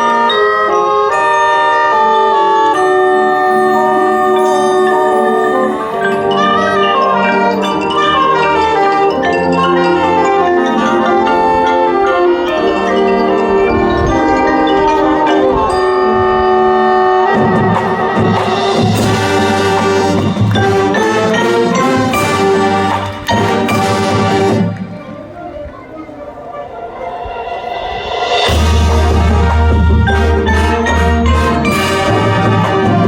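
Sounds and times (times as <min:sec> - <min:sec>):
mallet percussion melody: 0:00.0 - 0:33.0
marching band playing: 0:00.0 - 0:33.0.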